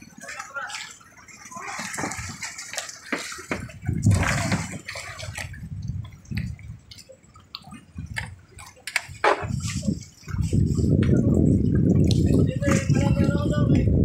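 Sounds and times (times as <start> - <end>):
water sloshing and splashing: 0.0 - 14.0
knocks and thumps on wooden boats: 0.1 - 14.0.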